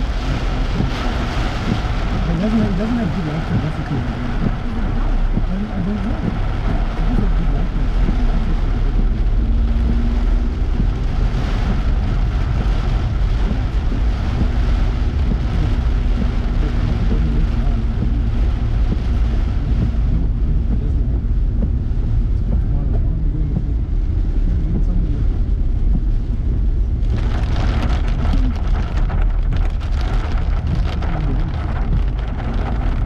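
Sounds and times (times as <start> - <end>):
tyres and engine rumbling: 0.0 - 33.0.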